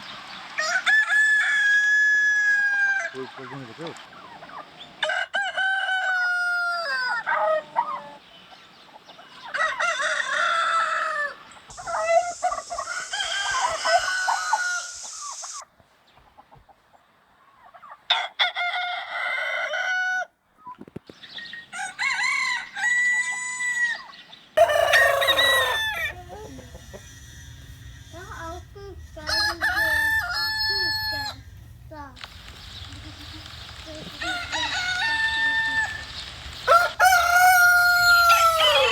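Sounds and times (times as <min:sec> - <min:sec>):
roosters crowing: 0:00.0 - 0:08.4, 0:09.1 - 0:15.6, 0:17.9 - 0:20.4, 0:21.6 - 0:38.9.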